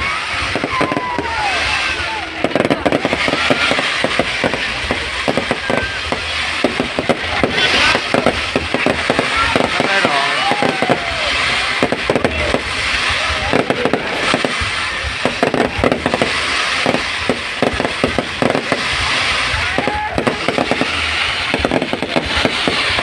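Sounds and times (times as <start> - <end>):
constant hiss: 0.0 - 23.0
fireworks bangs and crackles: 0.0 - 23.0.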